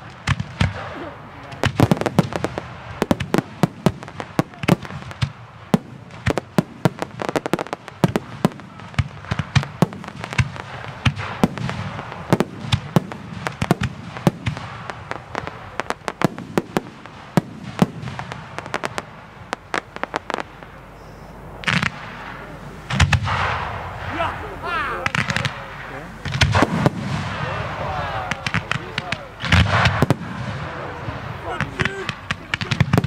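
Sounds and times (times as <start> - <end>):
crackling firework bursts: 0.0 - 33.0
fireworks cracks and bangs: 0.0 - 33.0.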